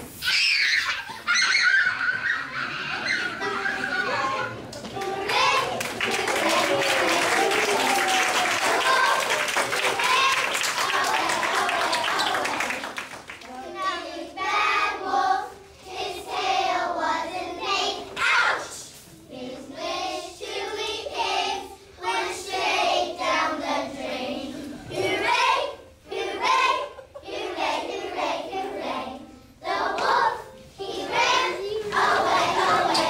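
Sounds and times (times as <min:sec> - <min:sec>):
children singing in chorus: 0:02.8 - 0:33.0.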